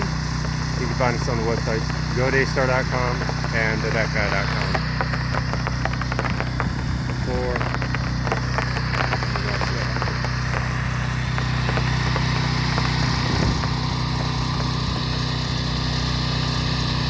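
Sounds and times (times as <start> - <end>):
pressure washer engine running: 0.0 - 17.0.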